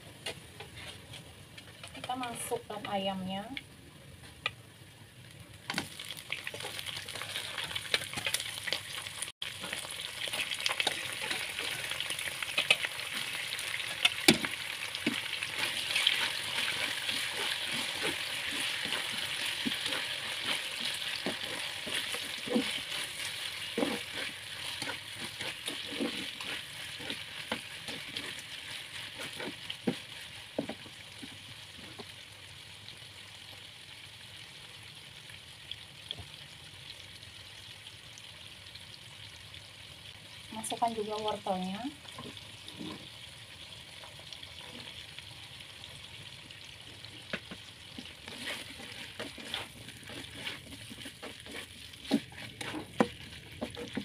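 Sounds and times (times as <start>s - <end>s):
chicken sizzling in hot oil: 4.4s - 54.0s.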